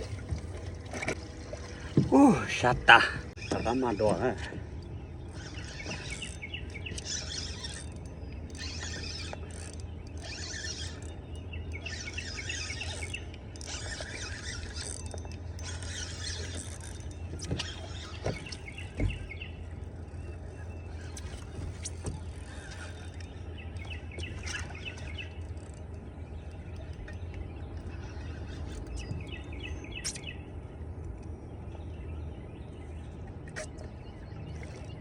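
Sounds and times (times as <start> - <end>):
steady low hum: 0.0 - 35.0
small birds chirping and singing: 1.7 - 35.0.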